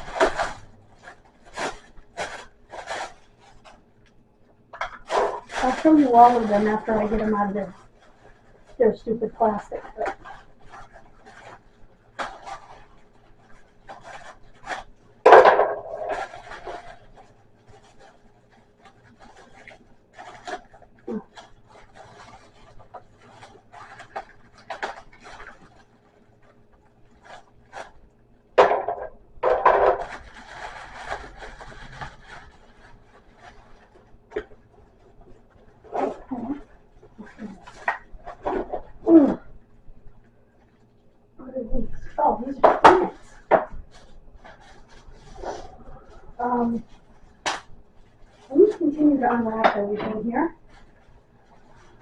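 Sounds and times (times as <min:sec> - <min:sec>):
plastic packaging crinkling: 0:00.0 - 0:52.0.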